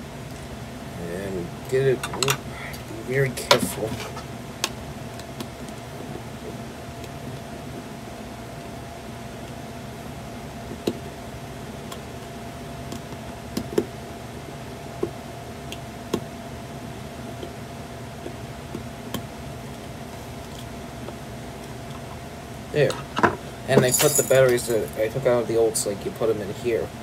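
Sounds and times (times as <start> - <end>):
electric fan humming: 0.0 - 27.0.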